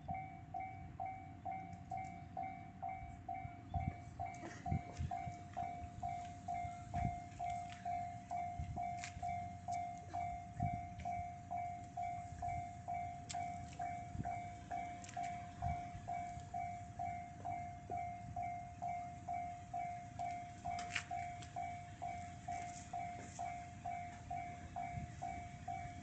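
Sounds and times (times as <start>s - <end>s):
level crossing electronic bell: 0.0s - 26.0s.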